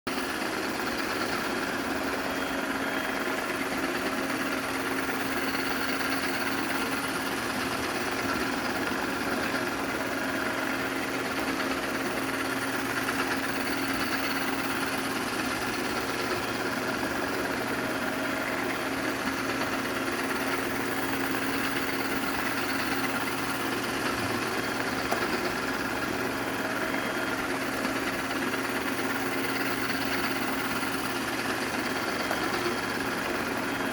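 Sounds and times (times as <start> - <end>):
robot vacuum cleaner humming: 0.6 - 33.9.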